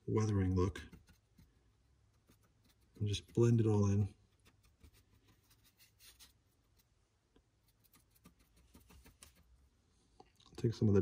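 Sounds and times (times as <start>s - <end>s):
paintbrush scratching on plaster: 0.2s - 7.0s, 7.6s - 9.7s.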